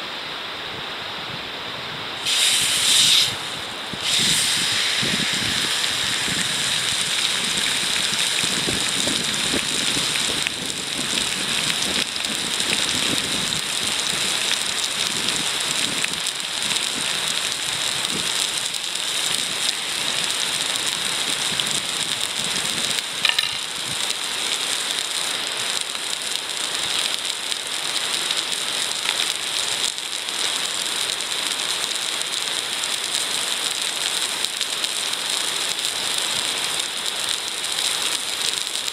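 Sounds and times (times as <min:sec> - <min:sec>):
food sizzling in a frying pan: 0:02.2 - 0:38.9
wood fire crackling: 0:02.2 - 0:38.9.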